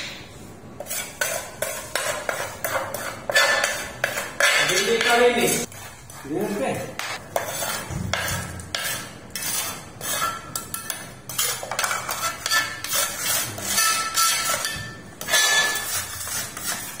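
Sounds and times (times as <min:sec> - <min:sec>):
trowel scraping on ceramic tiles: 0:00.8 - 0:17.0.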